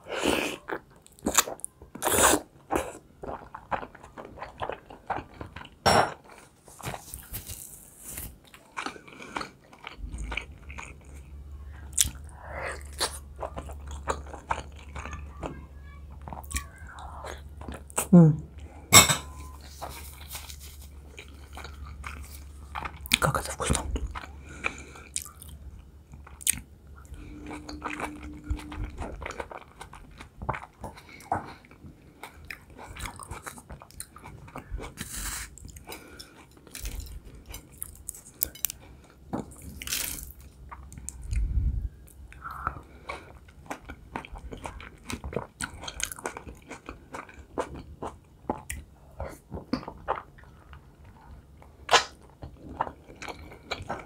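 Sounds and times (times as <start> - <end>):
chewing and biting food: 0.7 - 15.5, 19.7 - 54.0.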